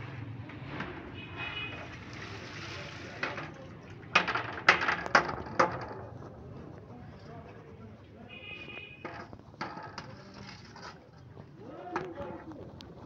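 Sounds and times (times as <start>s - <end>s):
low background murmur: 0.0s - 13.0s.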